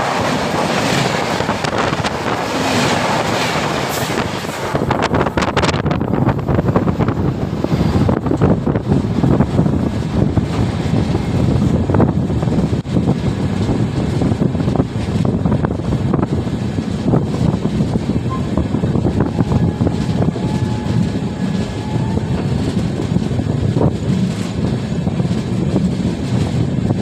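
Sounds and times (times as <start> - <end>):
train rumbling along track: 0.0 - 27.0
wind buffeting microphone: 0.0 - 27.0.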